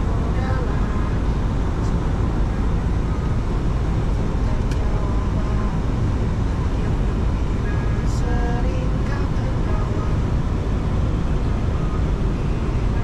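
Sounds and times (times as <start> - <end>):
airflow and engine rumble: 0.0 - 13.0.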